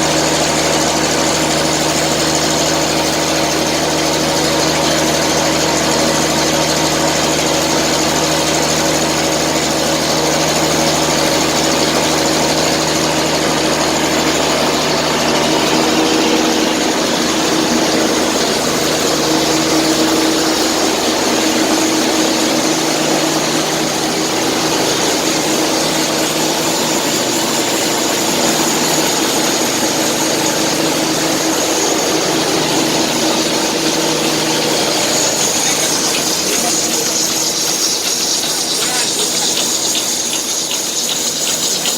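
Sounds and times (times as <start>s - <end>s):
machine drone from fans and motors: 0.0s - 41.9s.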